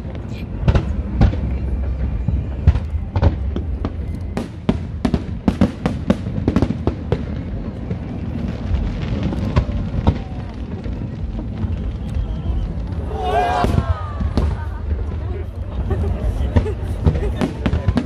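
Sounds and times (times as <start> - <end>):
fireworks bursting with sharp bangs: 0.0 - 18.0.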